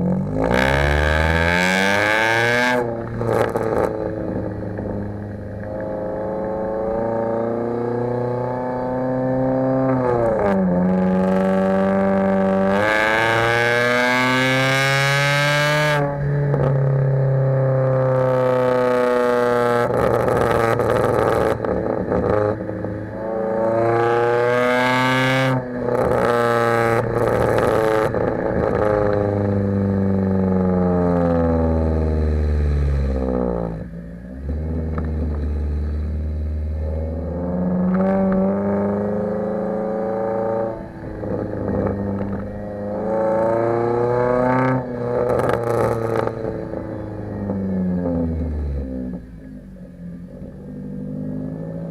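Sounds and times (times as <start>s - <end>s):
car engine accelerating hard: 0.0s - 51.9s.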